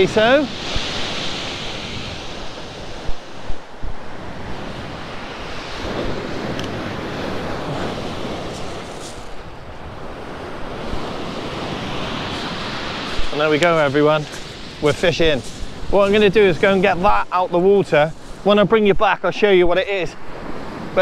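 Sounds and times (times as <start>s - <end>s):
waves breaking on shingle beach: 0.0s - 21.0s
wind buffeting microphone: 0.0s - 21.0s.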